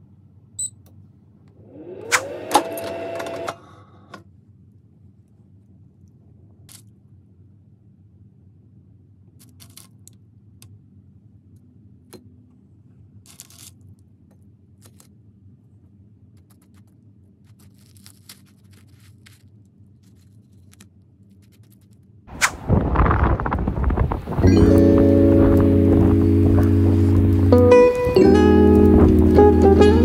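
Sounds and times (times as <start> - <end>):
low steady hum: 4.2 - 30.0.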